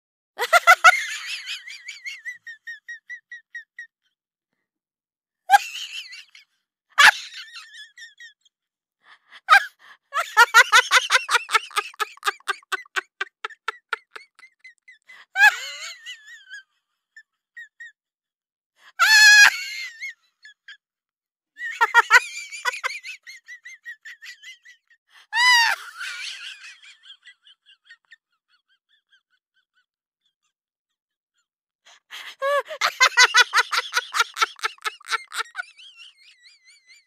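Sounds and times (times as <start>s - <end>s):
high-pitched laughter: 0.4s - 3.9s, 5.5s - 8.5s, 9.4s - 18.0s, 19.0s - 20.8s, 21.6s - 30.5s, 32.1s - 37.0s.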